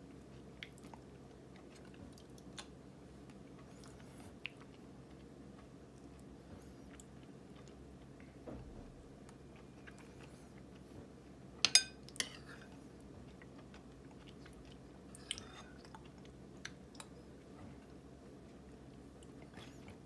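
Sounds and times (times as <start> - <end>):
person chewing with wet smacking: 0.0 - 20.0.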